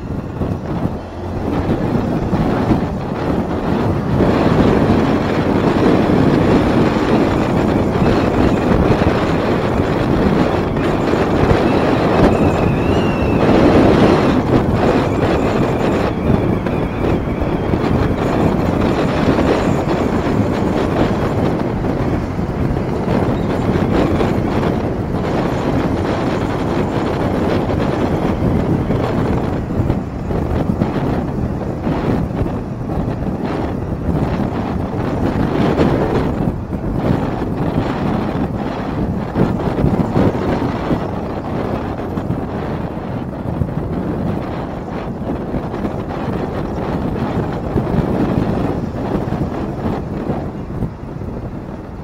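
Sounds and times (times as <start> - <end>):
motorcycle engine running: 0.0 - 52.0
road noise: 0.0 - 52.0
wind rush: 0.0 - 52.0.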